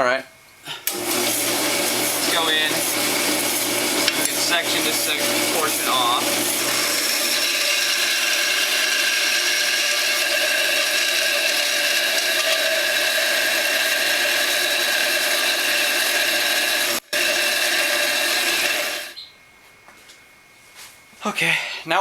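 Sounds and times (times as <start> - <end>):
power saw cutting steel: 0.8 - 19.2.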